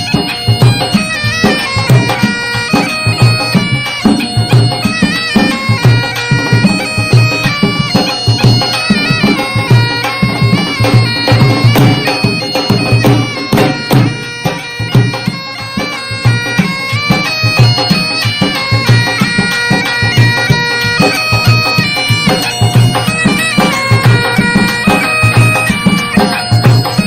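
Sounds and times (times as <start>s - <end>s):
reedy wind instrument melody: 0.0s - 27.0s
steady drum beat: 0.0s - 27.0s.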